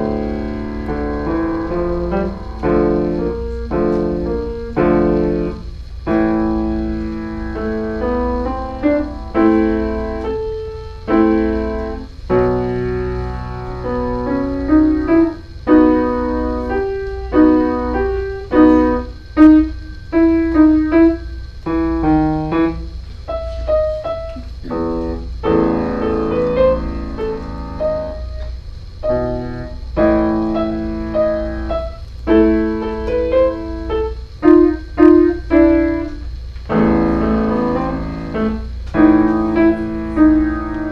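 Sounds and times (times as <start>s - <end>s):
low hum: 0.0s - 40.9s
solo piano playing: 0.0s - 40.9s.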